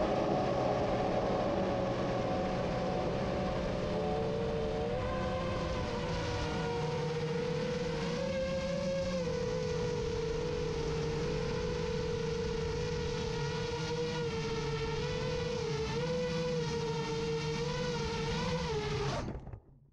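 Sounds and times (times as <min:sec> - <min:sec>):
drone propellers whining: 0:00.0 - 0:19.6.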